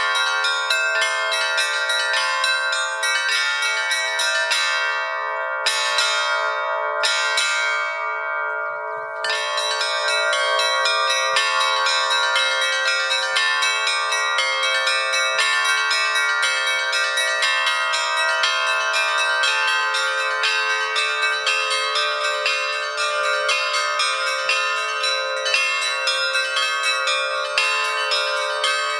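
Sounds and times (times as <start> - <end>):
bells ringing: 0.0 - 28.9.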